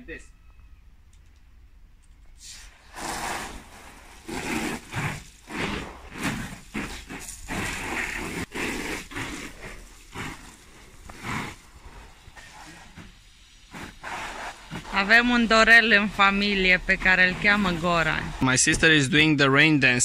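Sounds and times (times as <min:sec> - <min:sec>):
hose water spattering into pool: 0:02.4 - 0:19.1.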